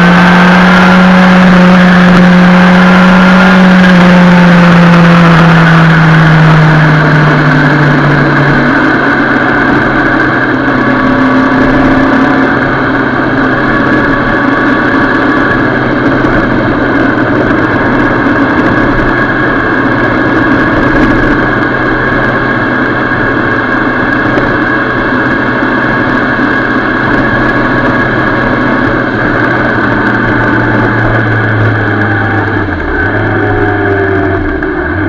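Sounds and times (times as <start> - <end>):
motorcycle engine running: 0.0 - 35.0
wind noise: 0.0 - 35.0.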